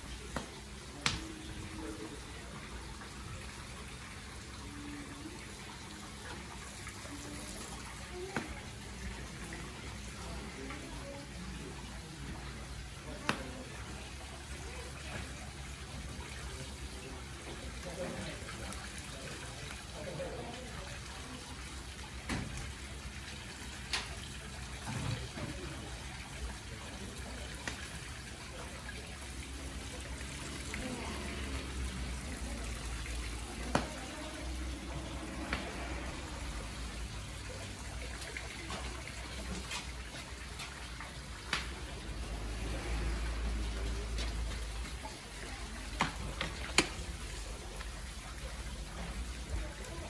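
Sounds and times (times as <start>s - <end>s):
running water trickling: 0.0s - 50.0s.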